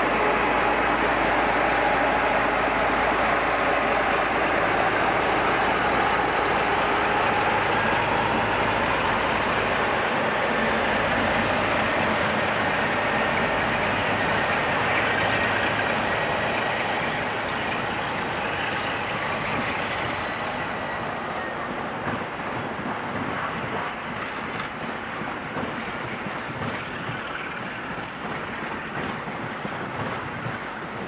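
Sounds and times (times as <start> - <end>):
trains passing close by: 0.0 - 31.0.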